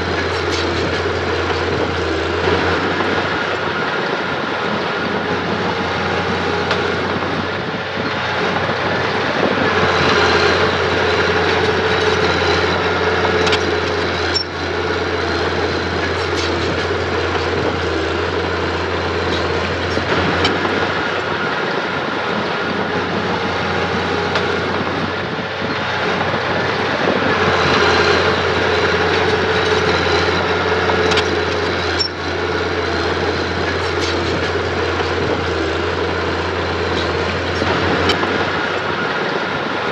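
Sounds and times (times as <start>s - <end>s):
earthmoving machine engine: 0.0s - 39.9s.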